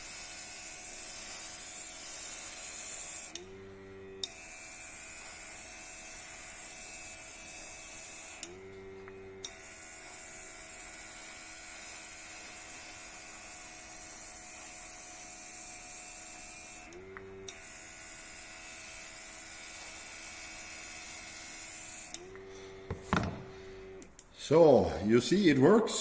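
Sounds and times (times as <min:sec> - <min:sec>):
airbrush spraying air hiss: 0:00.0 - 0:03.4, 0:04.2 - 0:23.9
air compressor motor hum: 0:00.0 - 0:25.1.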